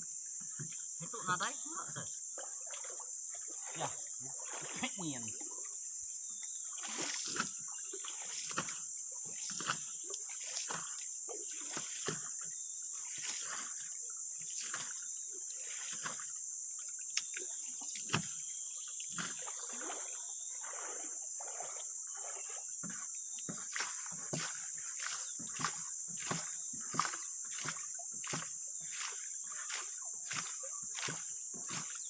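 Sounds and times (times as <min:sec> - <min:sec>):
insects droning: 0:00.0 - 0:32.0
water splashing: 0:00.4 - 0:32.0.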